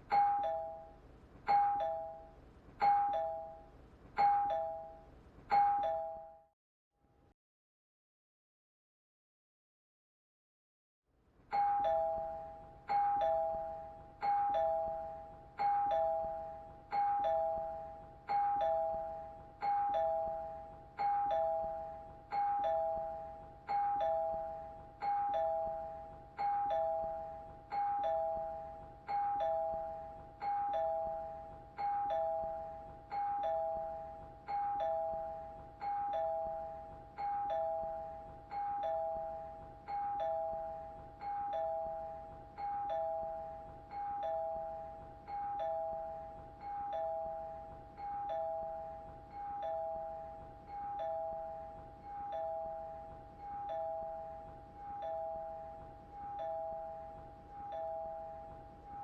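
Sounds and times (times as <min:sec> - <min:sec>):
two-tone doorbell chime: 0:00.0 - 0:06.5, 0:11.5 - 0:59.0.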